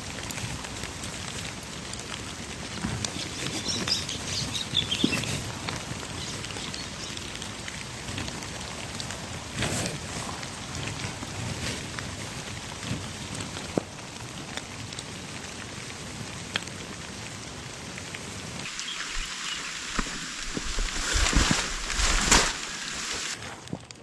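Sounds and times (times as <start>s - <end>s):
rain falling: 0.0s - 24.0s
rustles: 0.1s - 13.9s, 18.1s - 24.0s.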